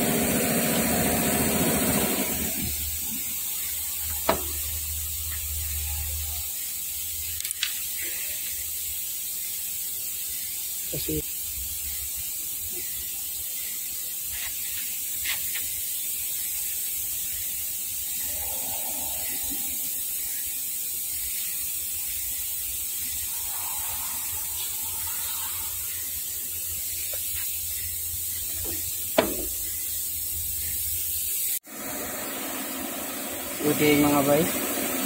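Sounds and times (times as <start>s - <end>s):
background hiss: 2.4s - 31.6s.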